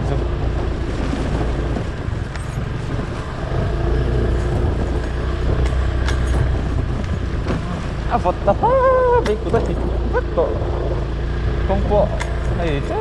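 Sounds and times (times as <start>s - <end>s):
motor vehicle low rumble: 0.0s - 13.0s.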